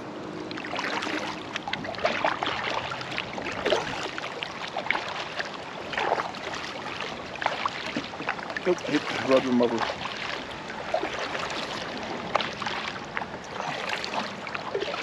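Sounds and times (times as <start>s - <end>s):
oars splashing in water: 0.5s - 15.0s.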